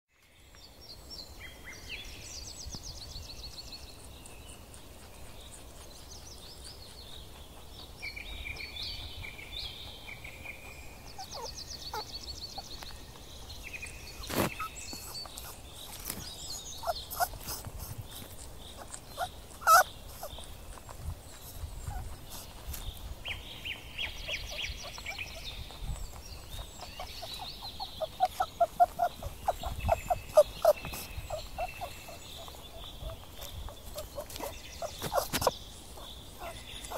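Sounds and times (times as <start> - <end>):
birds singing trills and chirps: 0.1 - 36.9.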